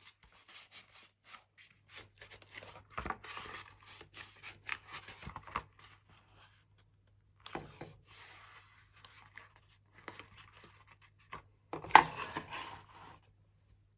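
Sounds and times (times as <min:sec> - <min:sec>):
paper and cardboard rustling: 0:00.0 - 0:06.6, 0:07.5 - 0:13.4.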